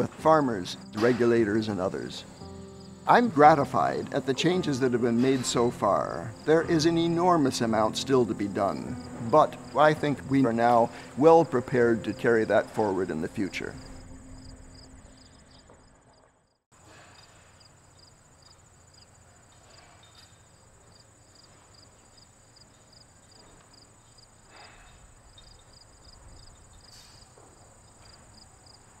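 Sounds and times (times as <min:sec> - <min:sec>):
insects trilling and chirping: 0:00.0 - 0:05.1, 0:05.8 - 0:16.2, 0:17.2 - 0:29.0.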